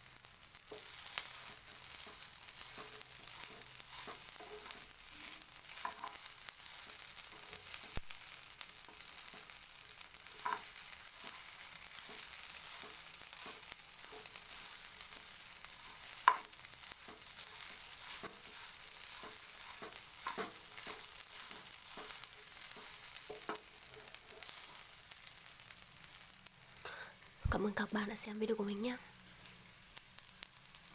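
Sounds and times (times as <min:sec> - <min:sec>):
fried rice sizzling in a pan: 0:00.0 - 0:30.9.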